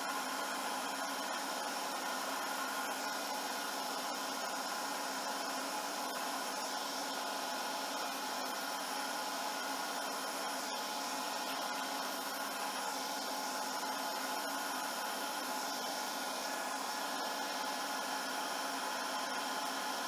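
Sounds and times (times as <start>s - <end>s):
sped-up lathe turning hiss: 0.0s - 20.0s.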